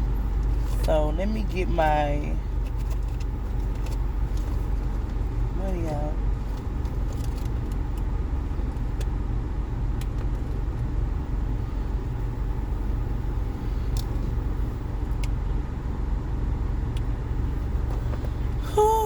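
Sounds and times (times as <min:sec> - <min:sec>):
car idling: 0:00.0 - 0:19.0.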